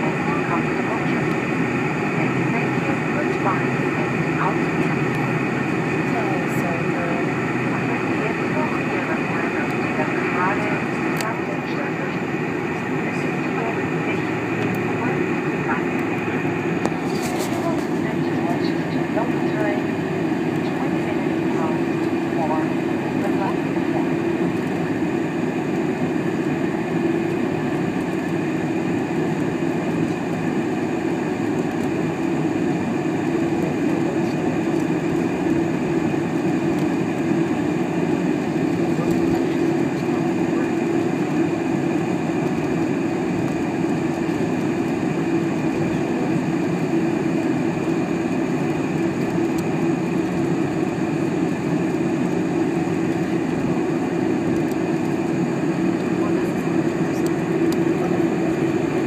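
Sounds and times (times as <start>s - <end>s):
airplane cabin low hum: 0.0s - 59.0s
high engine whine: 0.0s - 59.0s.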